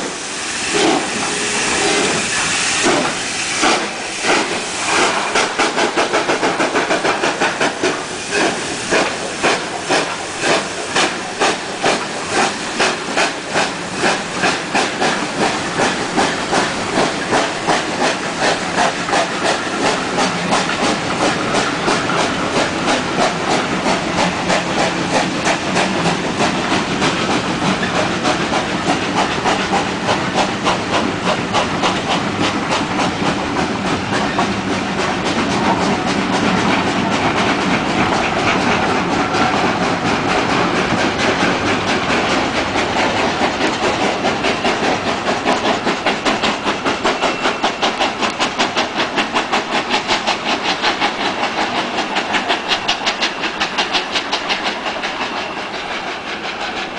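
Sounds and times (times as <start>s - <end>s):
train wheels clicking over rail joints: 0.0s - 56.9s.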